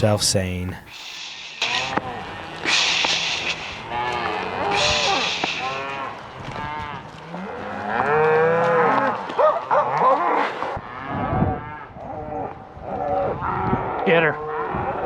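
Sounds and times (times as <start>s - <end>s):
cows mooing: 1.7s - 15.0s.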